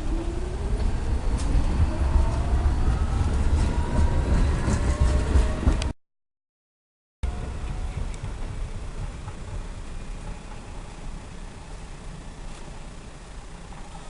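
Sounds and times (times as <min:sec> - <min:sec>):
train rumbling on rails: 0:00.0 - 0:06.0, 0:07.2 - 0:14.0.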